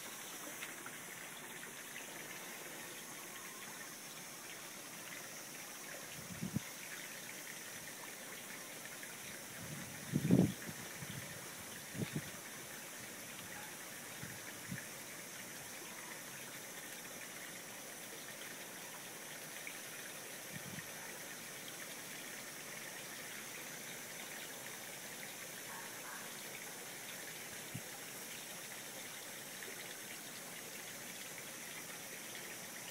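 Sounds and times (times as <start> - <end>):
aquarium water running: 0.0 - 32.9.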